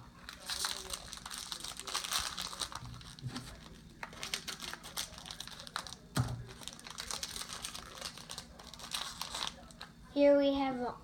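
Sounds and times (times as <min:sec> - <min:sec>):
plastic packaging crinkling: 0:00.2 - 0:09.9.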